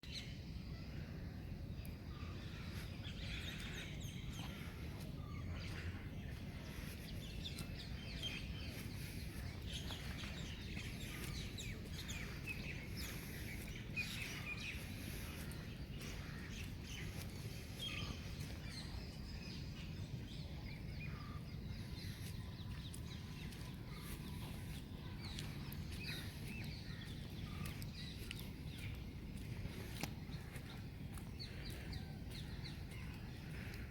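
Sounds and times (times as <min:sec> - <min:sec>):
small birds chirping: 0:00.0 - 0:33.9
low outdoor rumble: 0:00.4 - 0:33.9.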